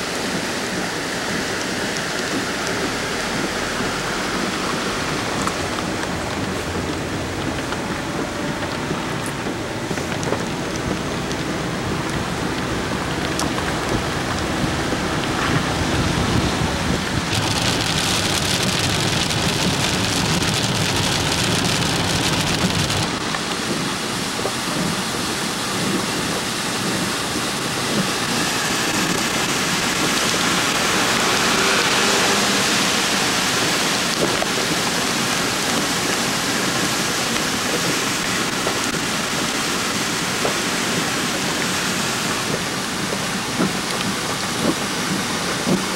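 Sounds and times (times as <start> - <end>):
heavy rain hiss: 0.0 - 45.9
rushing floodwater: 0.0 - 45.9.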